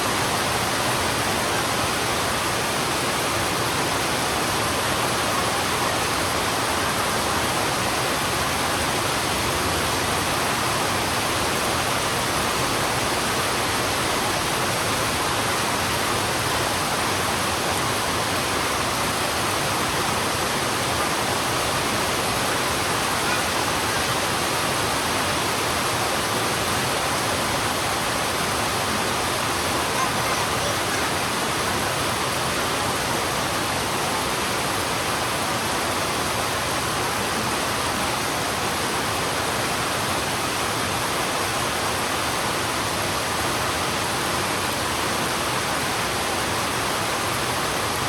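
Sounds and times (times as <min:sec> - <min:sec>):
heavy rain on a road: 0:00.0 - 0:48.0.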